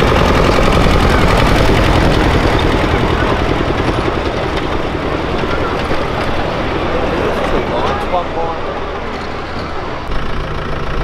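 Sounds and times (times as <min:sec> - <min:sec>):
miniature train rumbling: 0:00.0 - 0:11.0
train cars rattling over track: 0:00.0 - 0:11.0.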